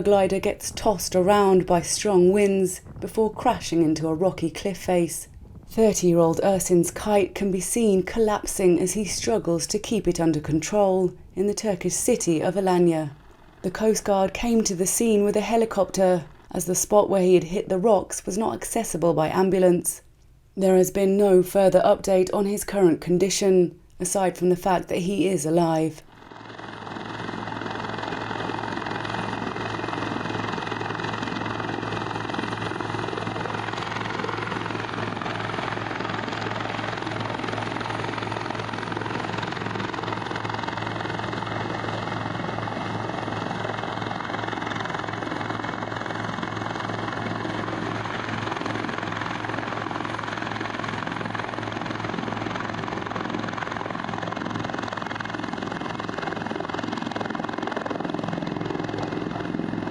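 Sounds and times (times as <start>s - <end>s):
helicopter rotor beating: 0.0s - 10.8s, 11.4s - 16.8s, 24.6s - 59.9s.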